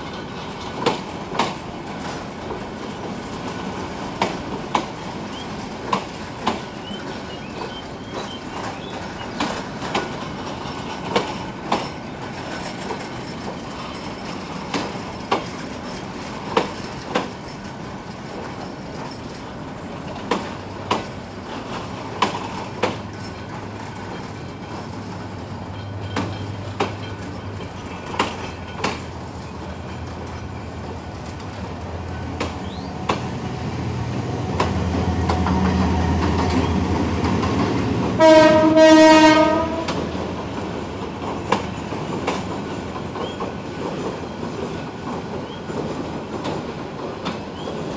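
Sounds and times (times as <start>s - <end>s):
train coaches rumbling past: 0.0s - 47.9s
wheels clacking over rail joints: 0.0s - 47.9s.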